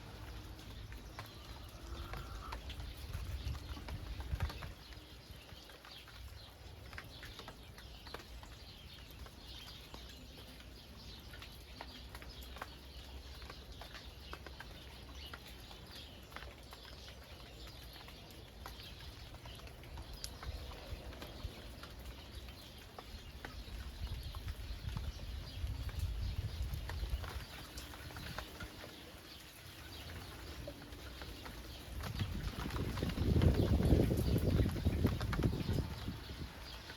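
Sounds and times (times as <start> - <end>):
rain falling: 0.0 - 36.9
raindrops ticking: 0.0 - 36.9.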